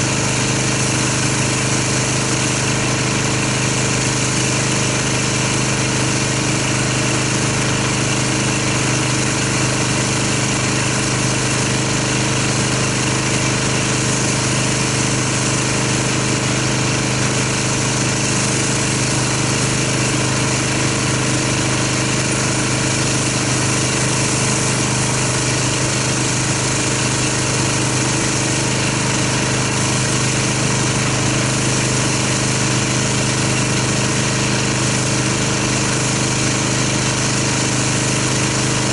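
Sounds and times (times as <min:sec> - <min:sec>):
pressure washer motor hum: 0:00.0 - 0:38.9
water jet hissing: 0:00.0 - 0:38.9.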